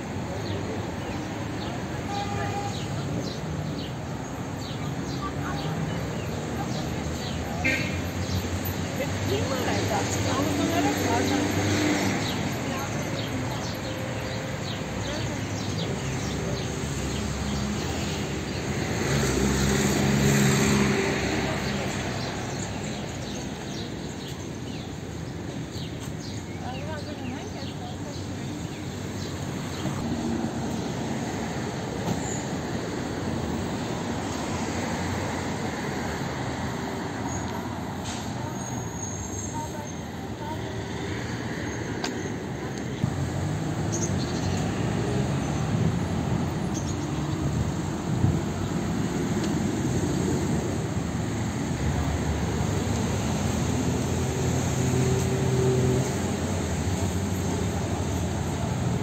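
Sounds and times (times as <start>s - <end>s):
vehicle rumble with road noise: 0.0s - 59.0s.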